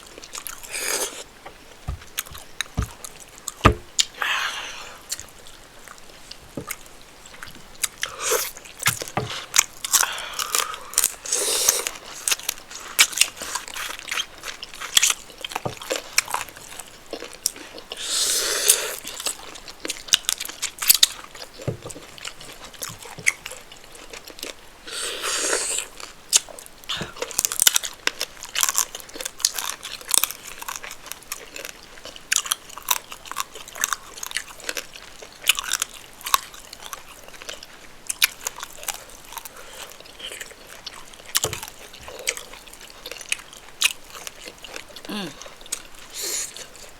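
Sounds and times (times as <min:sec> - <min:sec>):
wet chewing and smacking: 0:00.0 - 0:04.2, 0:05.1 - 0:18.1, 0:19.0 - 0:24.6, 0:25.3 - 0:46.9.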